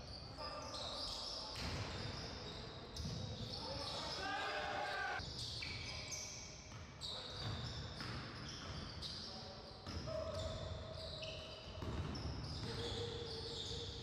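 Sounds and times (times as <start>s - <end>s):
sneaker squeaks on the floor: 0.0s - 14.0s.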